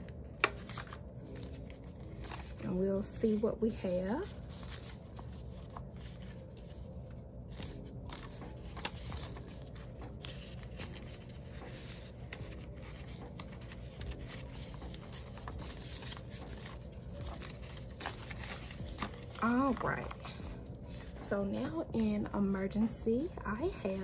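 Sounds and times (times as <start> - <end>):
paper banknotes rustling: 0.0 - 21.8
steady low hum: 0.0 - 24.0.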